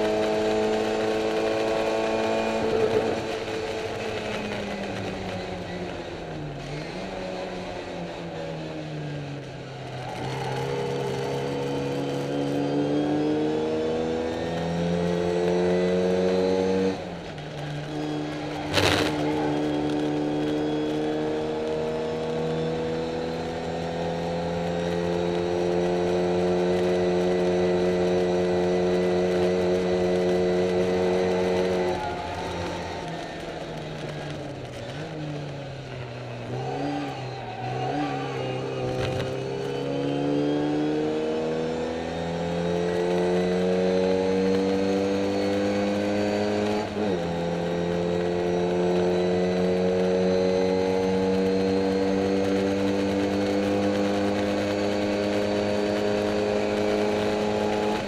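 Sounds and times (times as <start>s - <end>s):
racing car engine revving: 9.9s - 58.0s.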